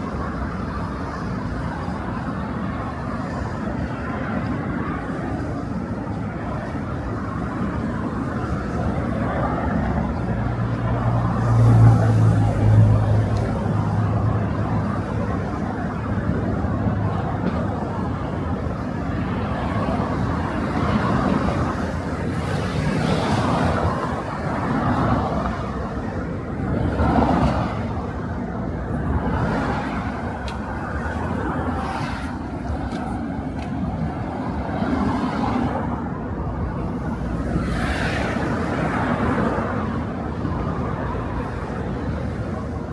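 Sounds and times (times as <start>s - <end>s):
cars passing by: 0.0s - 42.9s
traffic background hum: 0.0s - 42.9s.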